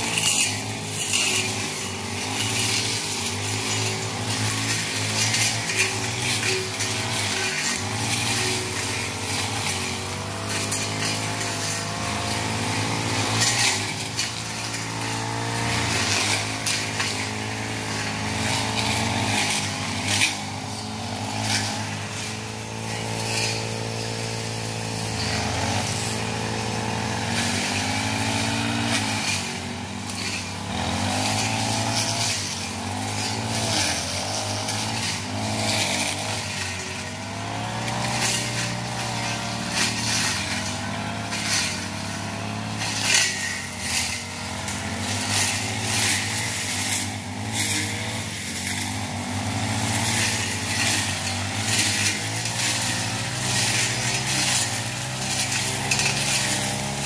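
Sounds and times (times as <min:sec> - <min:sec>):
brush cutter engine revving: 0:00.0 - 0:57.0.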